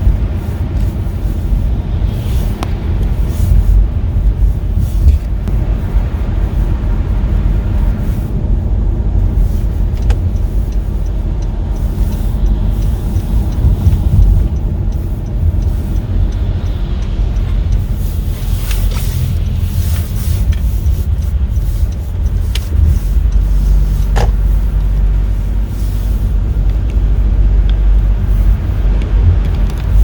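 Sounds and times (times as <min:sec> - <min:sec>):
engine and road noise rumble: 0:00.0 - 0:30.0
faint regular ticking: 0:00.0 - 0:30.0.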